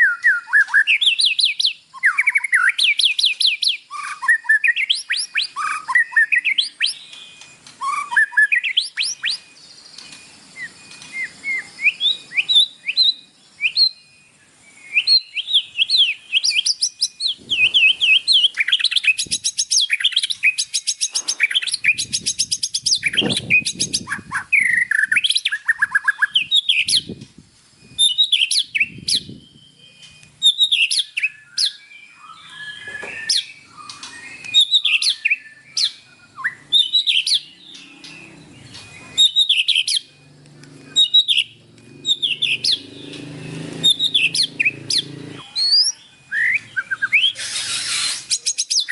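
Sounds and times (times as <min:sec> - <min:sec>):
bird singing whistled phrases: 0:00.0 - 0:27.2, 0:27.8 - 0:40.3, 0:40.9 - 0:48.9.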